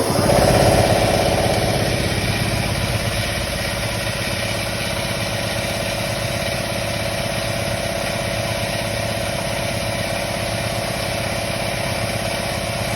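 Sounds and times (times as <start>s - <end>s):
air compressor running: 0.0s - 12.9s.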